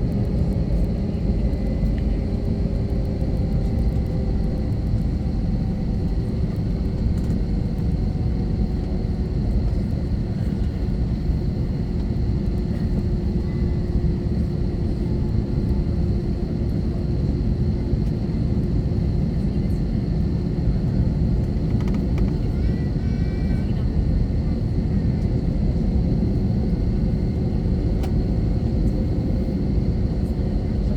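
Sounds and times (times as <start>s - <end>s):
aircraft cabin low rumble: 0.0s - 30.9s.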